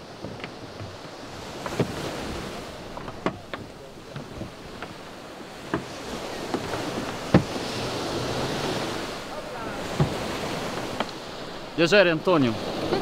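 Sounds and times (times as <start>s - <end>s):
wind on microphone: 0.0s - 11.8s
surf breaking on beach: 0.0s - 13.0s.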